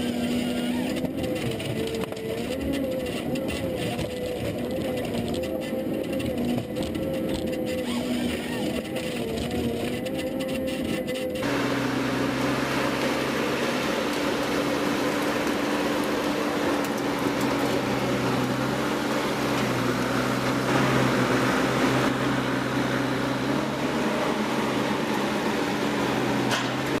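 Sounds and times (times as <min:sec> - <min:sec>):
machine motor humming: 0:00.0 - 0:27.0.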